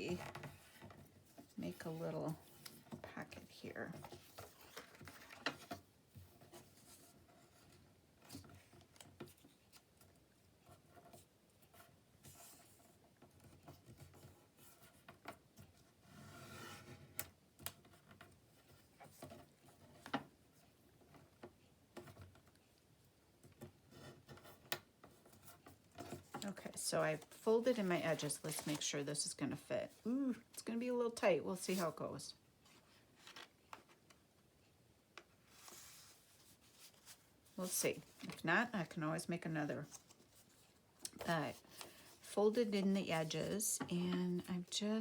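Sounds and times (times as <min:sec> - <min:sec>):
paper rustling and creasing: 0:00.0 - 0:22.8, 0:23.6 - 0:30.6, 0:31.5 - 0:34.2, 0:35.3 - 0:45.0.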